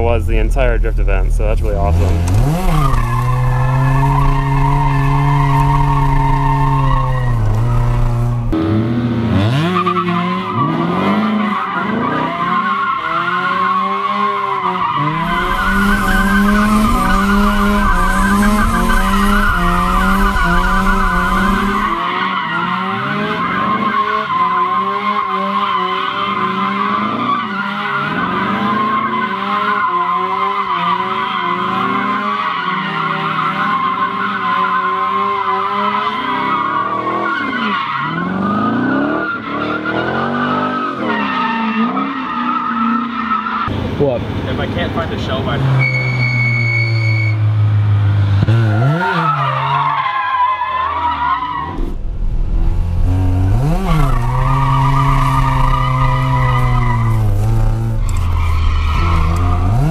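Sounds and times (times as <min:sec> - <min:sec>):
tires squealing: 0:00.0 - 0:47.5, 0:48.1 - 0:52.0, 0:53.0 - 0:59.9
rotary engine revving: 0:00.3 - 0:43.4, 0:51.7 - 0:59.9.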